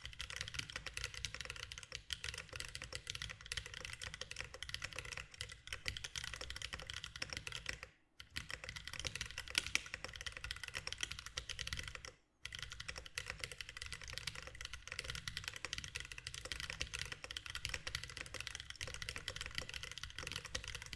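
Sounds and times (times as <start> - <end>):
fast mechanical keyboard typing: 0.0 - 20.9.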